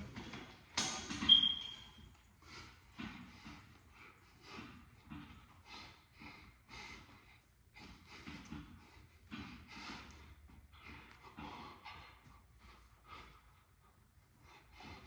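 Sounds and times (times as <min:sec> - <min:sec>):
person breathing hard: 0:02.4 - 0:15.0.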